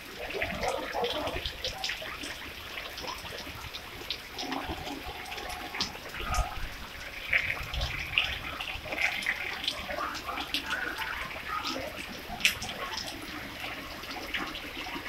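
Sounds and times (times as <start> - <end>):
rain falling on wet road: 0.0 - 15.0.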